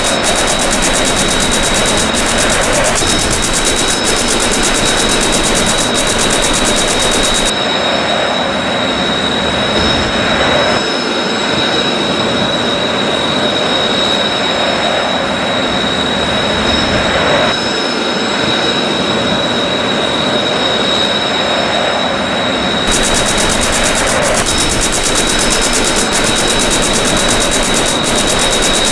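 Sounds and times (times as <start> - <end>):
jet engine roar with high whine: 0.0 - 28.9.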